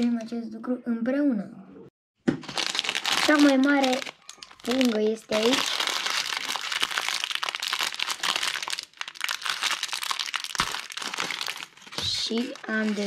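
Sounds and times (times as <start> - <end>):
plastic bag crinkling: 2.4 - 13.0.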